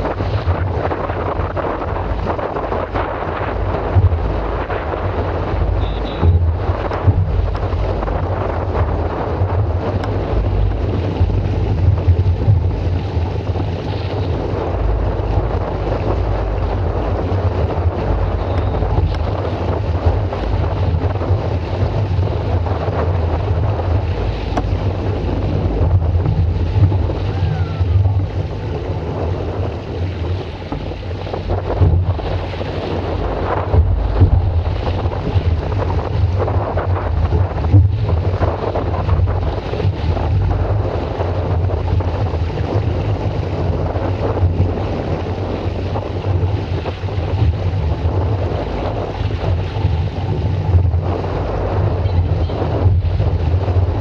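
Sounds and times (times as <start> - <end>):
water washing: 0.0 - 54.0
wind buffeting microphone: 0.0 - 54.0.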